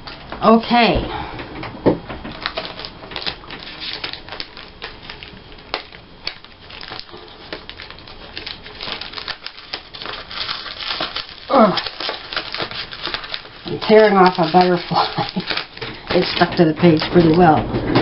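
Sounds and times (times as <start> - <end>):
paper rustling: 2.3 - 18.0
scissors snipping paper: 2.5 - 17.4.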